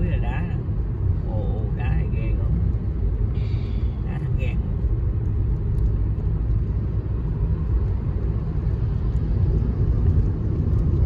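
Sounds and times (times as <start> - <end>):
car driving on road: 0.0 - 11.0.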